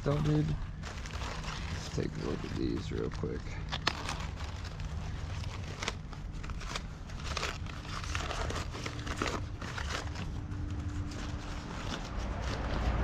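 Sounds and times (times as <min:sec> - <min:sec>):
low steady hum: 0:00.0 - 0:13.0
packaging crinkling and tearing: 0:00.0 - 0:13.0.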